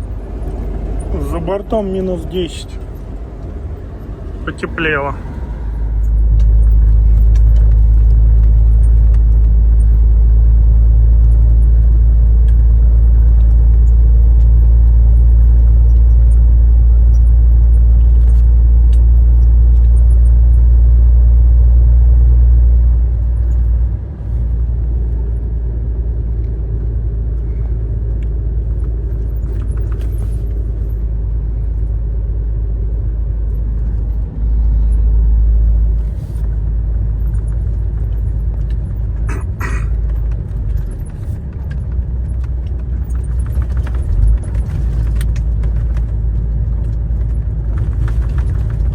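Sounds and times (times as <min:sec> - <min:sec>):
truck engine and road noise: 0:00.0 - 0:48.9.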